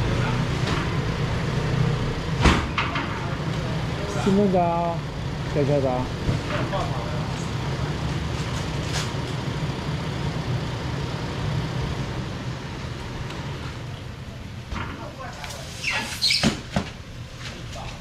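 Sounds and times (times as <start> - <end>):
vehicle engine idling: 0.0 - 15.4.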